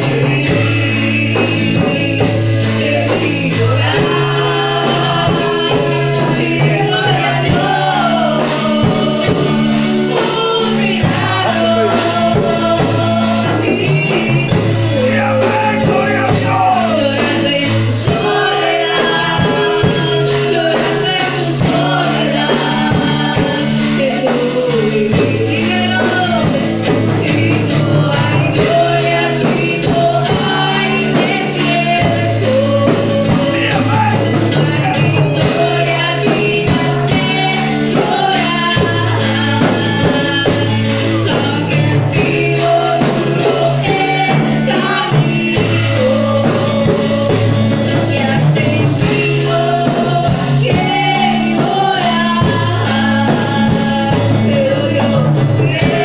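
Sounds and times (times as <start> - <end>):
drum kit: 0.0 - 56.0
electronic keyboards: 0.0 - 56.0
woman singing: 0.0 - 56.0.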